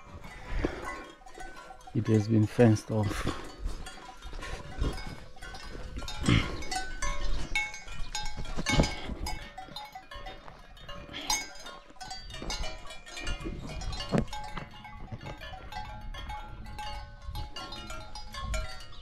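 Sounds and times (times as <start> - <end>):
cattle bells clanking: 0.0 - 19.0.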